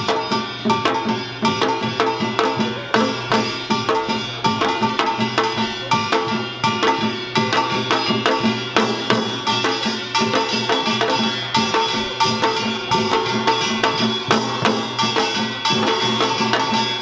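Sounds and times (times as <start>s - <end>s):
drums in fast rhythm: 0.0s - 17.0s
small gongs ringing: 0.0s - 17.0s.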